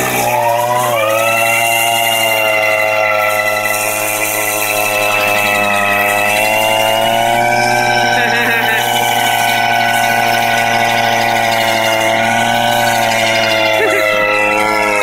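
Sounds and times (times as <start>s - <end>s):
chainsaw engine at high revs: 0.0s - 15.0s.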